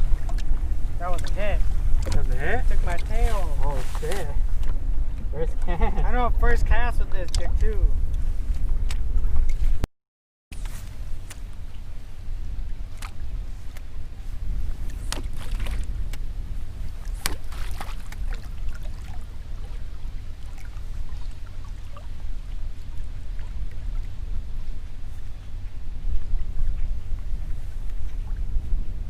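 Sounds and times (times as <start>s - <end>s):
wind and water rumble: 0.0s - 9.9s, 10.5s - 29.0s.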